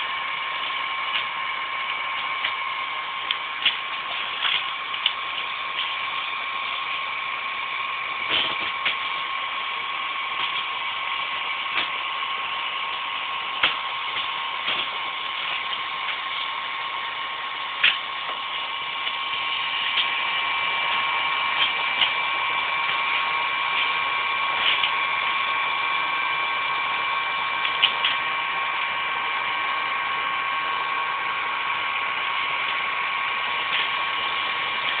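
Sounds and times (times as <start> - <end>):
hot-air dryer whine: 0.0 - 35.0.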